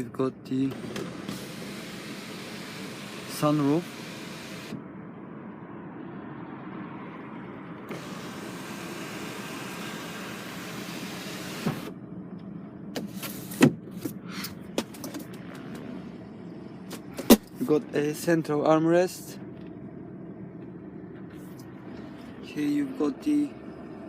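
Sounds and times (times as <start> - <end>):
engine humming inside cab: 0.0 - 24.0.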